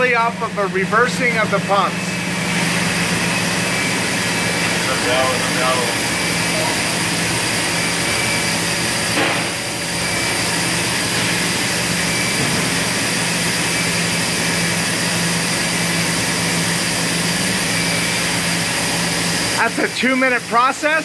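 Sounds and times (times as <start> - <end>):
machinery drone: 0.0 - 21.0.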